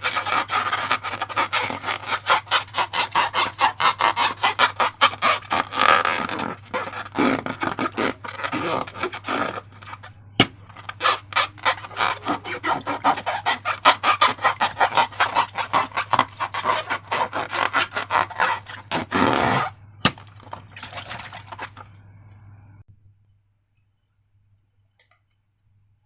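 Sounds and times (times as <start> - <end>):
wet slime squelches: 0.0 - 22.3
steady low hum: 3.4 - 26.0.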